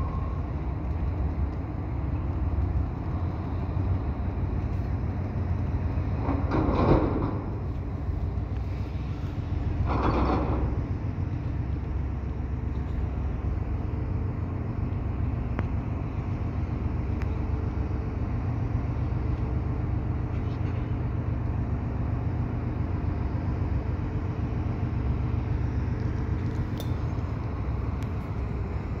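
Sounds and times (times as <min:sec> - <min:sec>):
diesel locomotive engine idling: 0:00.0 - 0:29.0.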